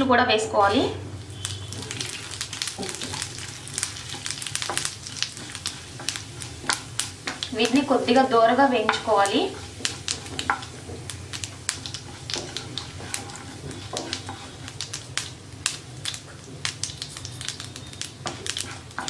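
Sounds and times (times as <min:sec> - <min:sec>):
seeds crackling in hot oil: 0:00.6 - 0:19.0.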